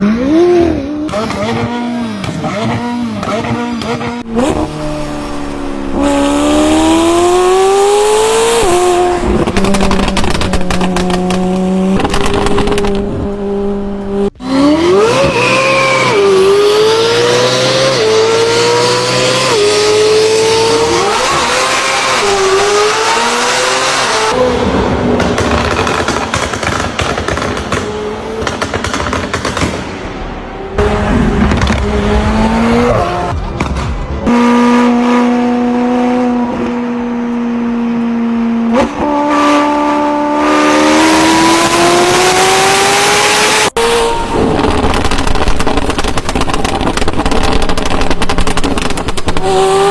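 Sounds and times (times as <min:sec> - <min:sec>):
car engine revving and accelerating: 0:00.0 - 0:25.7, 0:30.0 - 0:49.9.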